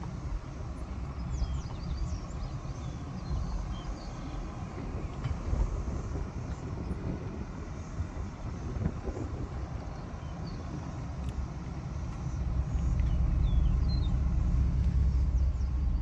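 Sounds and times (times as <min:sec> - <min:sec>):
pickup truck road rumble: 0:00.0 - 0:16.0.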